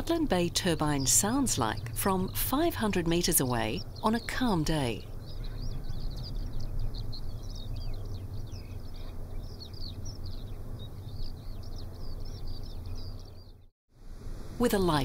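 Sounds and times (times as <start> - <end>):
wind turbine low rumble: 0.0 - 13.2, 14.0 - 15.0
small birds chirping: 0.0 - 13.7.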